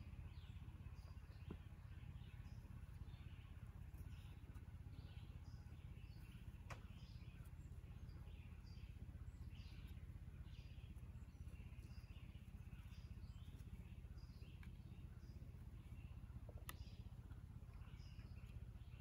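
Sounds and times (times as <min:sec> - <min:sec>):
faint bird chirps: 0:00.0 - 0:19.0
low steady rumble: 0:00.0 - 0:19.0.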